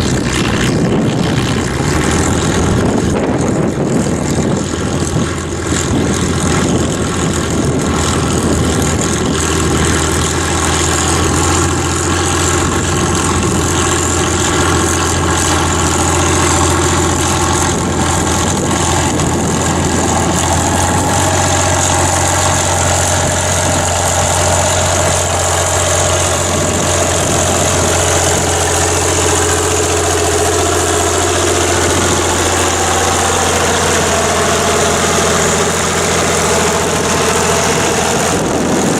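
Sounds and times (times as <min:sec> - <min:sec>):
tractor engine running under load: 0:00.0 - 0:38.9.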